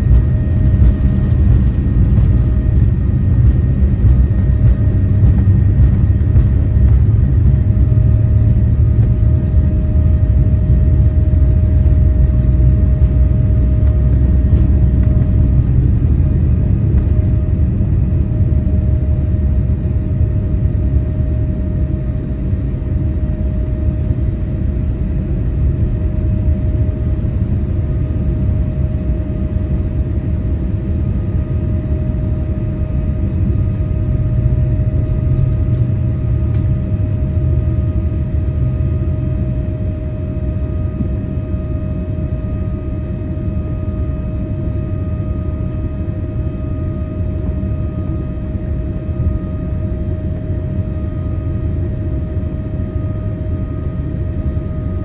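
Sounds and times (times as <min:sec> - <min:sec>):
jet engine and airflow rumble: 0:00.0 - 0:55.0
thin steady whine: 0:00.0 - 0:55.0.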